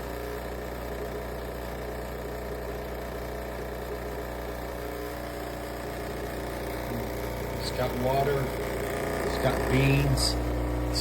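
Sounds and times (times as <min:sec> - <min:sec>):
coffee machine humming: 0:00.0 - 0:11.0.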